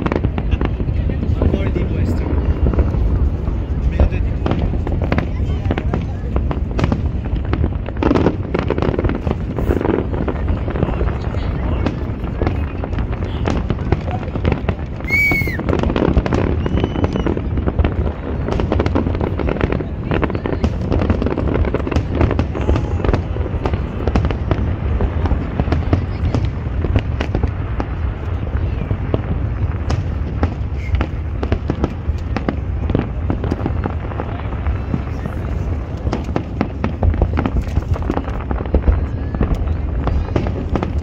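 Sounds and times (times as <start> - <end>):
fireworks bursts and crackles: 0.0 - 41.0.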